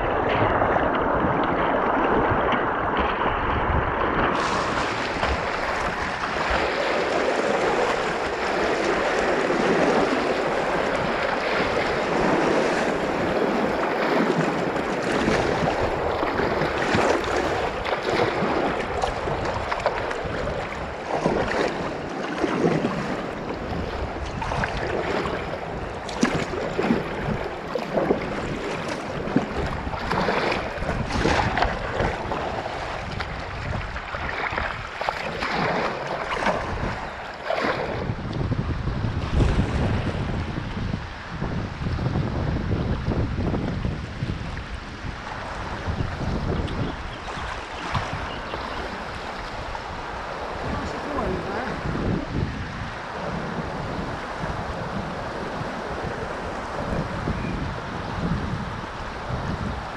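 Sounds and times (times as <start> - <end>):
whitewater rushing: 0.0 - 38.2, 43.4 - 59.9
paddle splashes: 0.0 - 59.9
water breaking over bow: 0.0 - 59.9.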